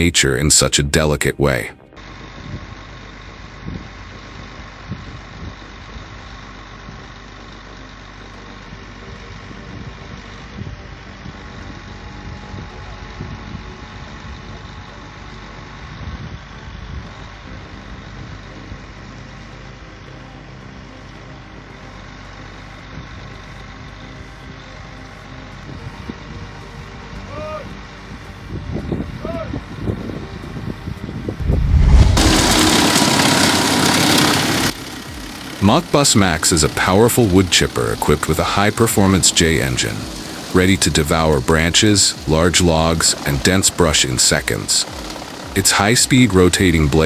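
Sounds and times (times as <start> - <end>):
truck engine running: 1.9 - 47.0.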